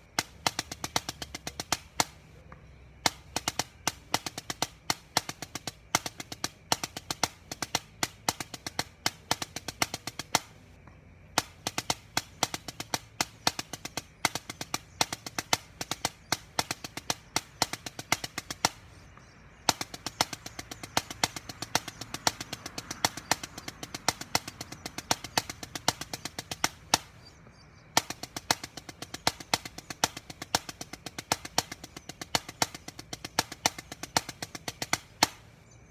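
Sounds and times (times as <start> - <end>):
drumsticks tapping practice pad: 0.0 - 35.6.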